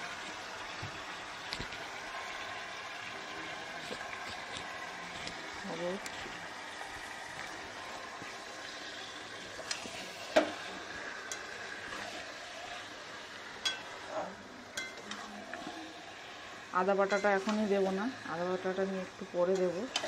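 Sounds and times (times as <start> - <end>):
chicken sizzling in oil: 0.0 - 20.0
spatula stirring and scraping: 3.6 - 20.0.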